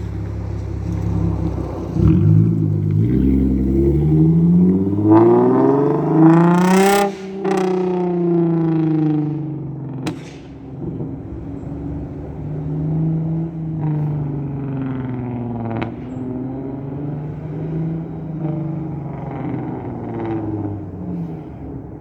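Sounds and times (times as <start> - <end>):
car exhaust while driving: 0.0 - 22.0.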